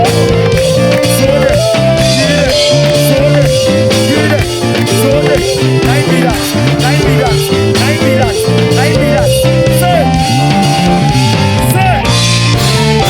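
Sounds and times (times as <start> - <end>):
band playing instrumental: 0.0 - 13.0.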